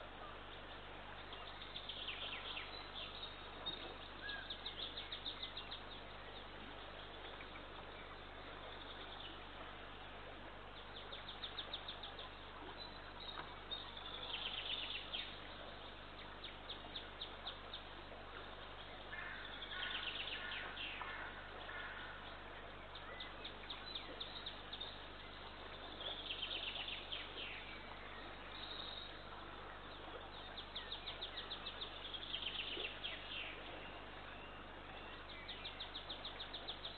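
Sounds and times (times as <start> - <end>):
steady hiss and low hum: 0.0 - 36.9.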